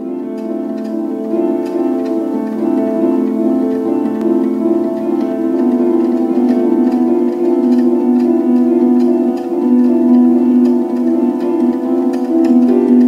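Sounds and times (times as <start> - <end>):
plucked harp-like background music: 0.0 - 13.0.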